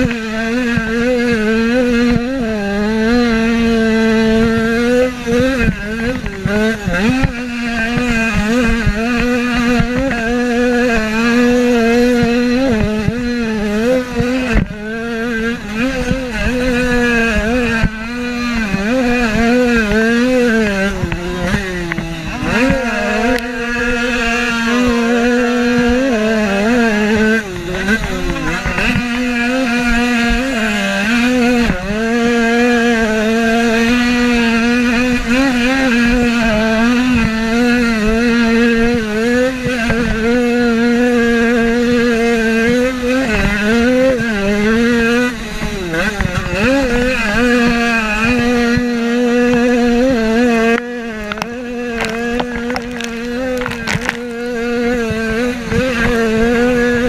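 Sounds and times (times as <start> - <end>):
motocross bike engine at race pace: 0.0 - 57.0.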